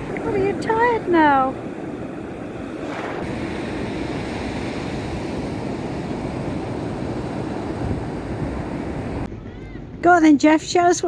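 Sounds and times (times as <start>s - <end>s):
surf washing onto beach: 0.0s - 9.3s
wind noise on microphone: 0.0s - 11.0s.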